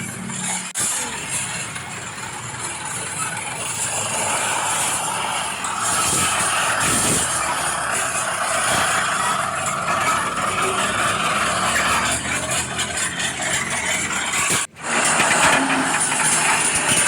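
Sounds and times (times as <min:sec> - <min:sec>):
rc construction machine whirring: 0:00.0 - 0:17.0.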